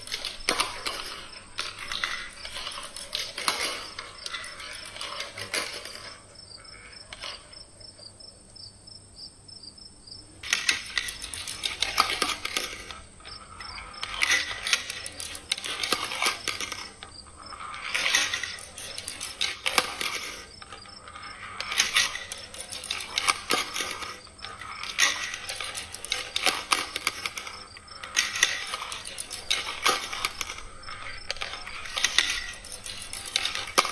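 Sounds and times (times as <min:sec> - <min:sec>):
marbles rattling down plastic tracks: 0:00.0 - 0:07.6, 0:10.4 - 0:33.9.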